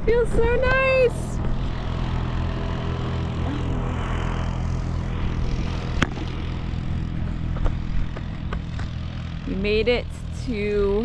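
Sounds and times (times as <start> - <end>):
road and tyre noise: 0.0 - 11.0
truck engine drone: 0.0 - 11.0.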